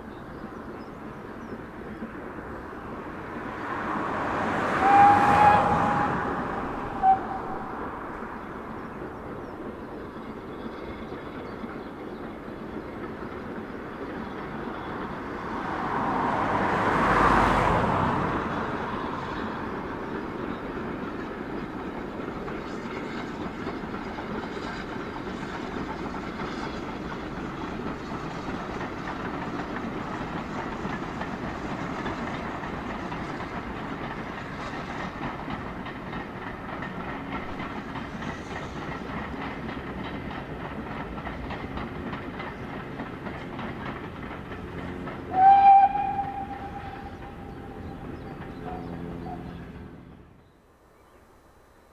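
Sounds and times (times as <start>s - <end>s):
steam locomotive passing: 0.0s - 51.9s
train coaches rolling by: 0.0s - 51.9s.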